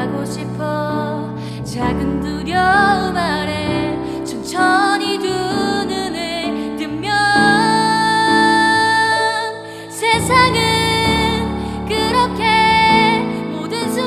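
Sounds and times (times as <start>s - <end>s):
girl singing pop ballad: 0.0s - 14.0s.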